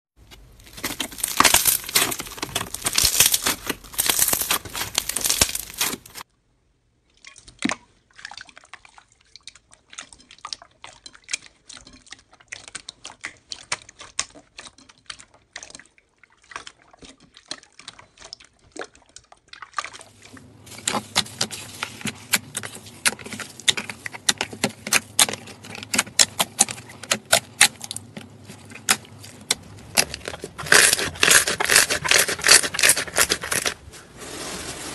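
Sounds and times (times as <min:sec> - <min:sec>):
slime squelching and popping: 0:00.2 - 0:06.3, 0:07.2 - 0:33.8.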